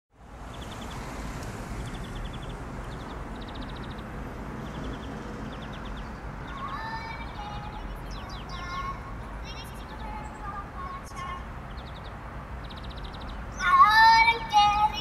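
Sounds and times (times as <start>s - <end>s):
traffic rumble: 0.1s - 15.0s
bird chirping: 0.4s - 14.4s.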